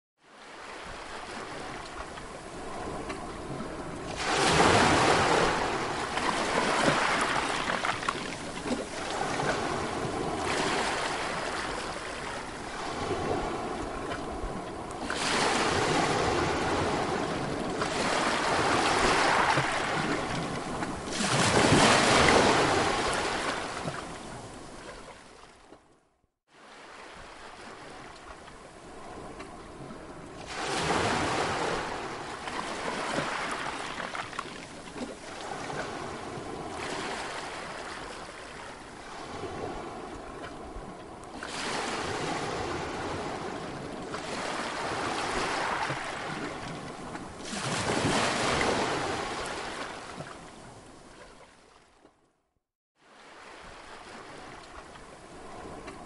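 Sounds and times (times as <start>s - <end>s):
ocean waves breaking: 0.2s - 25.8s, 26.5s - 52.0s, 53.0s - 56.0s.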